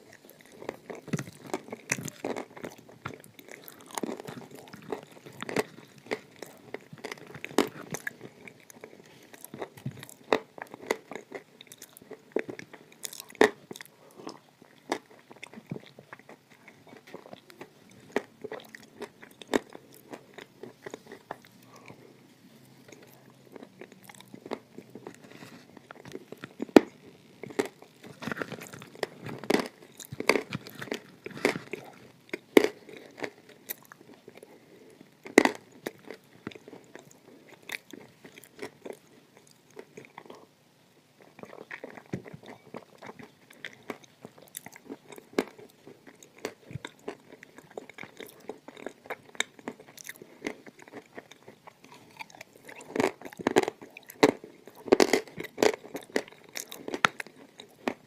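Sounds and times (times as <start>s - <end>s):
chewing crunchy clay: 0.0s - 58.0s.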